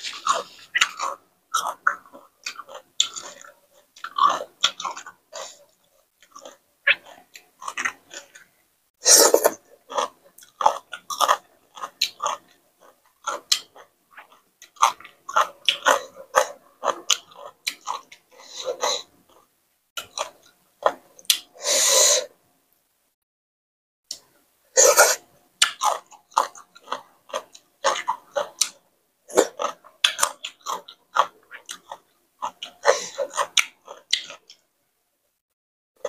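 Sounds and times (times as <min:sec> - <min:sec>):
wet chewing and crunching: 0:00.0 - 0:08.5, 0:09.3 - 0:21.5, 0:25.6 - 0:34.6.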